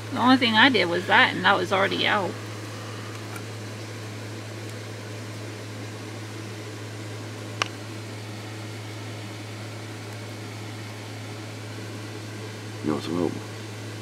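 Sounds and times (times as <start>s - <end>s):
appliance humming and hissing: 0.0s - 14.0s.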